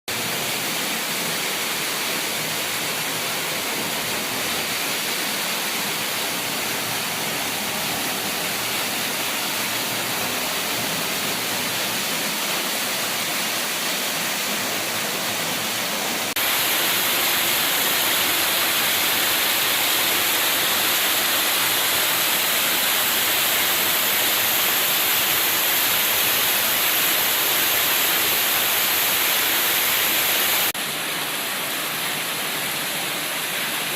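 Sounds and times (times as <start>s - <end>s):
fast-flowing water rushing: 0.1s - 33.9s.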